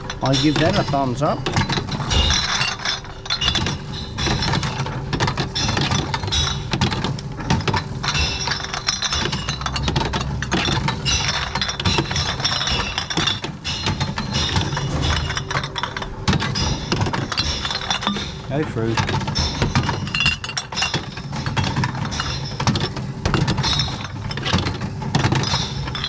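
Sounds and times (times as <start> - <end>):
glass bottles rattling and clinking: 0.0 - 26.0.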